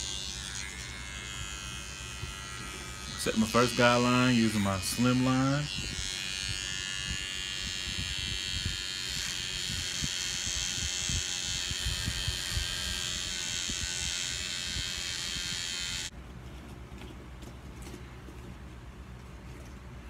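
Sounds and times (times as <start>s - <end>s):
hair trimmer buzzing: 0.0s - 16.1s.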